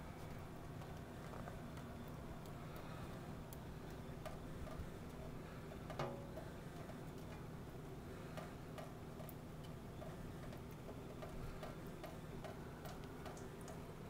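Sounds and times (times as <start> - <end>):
cats lapping water: 0.0 - 14.0.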